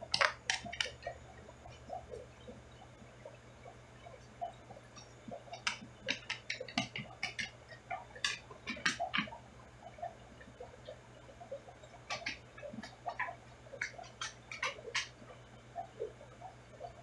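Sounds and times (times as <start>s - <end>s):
sharp clicks underwater: 0.0s - 17.0s.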